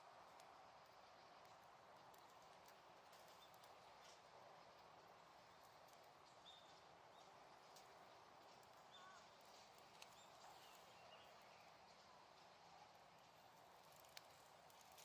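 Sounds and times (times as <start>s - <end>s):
burning wood crackling: 0.0s - 15.0s.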